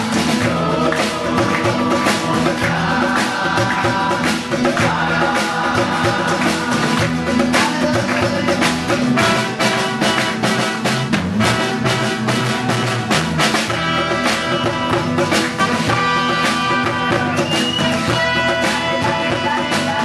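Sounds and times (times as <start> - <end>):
drum kit: 0.0 - 20.0
guitar: 0.0 - 20.0
live band playing: 0.0 - 20.0.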